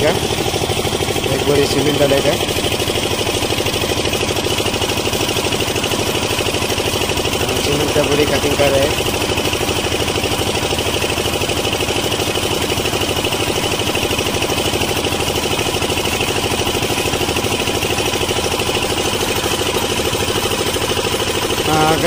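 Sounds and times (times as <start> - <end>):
concrete mixer engine chugging: 0.0 - 22.0.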